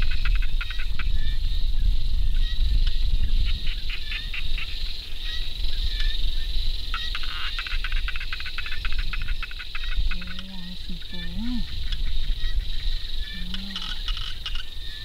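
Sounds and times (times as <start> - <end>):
rapid clicking calls: 0.0 - 1.5, 2.4 - 15.0
insects droning: 0.0 - 15.0.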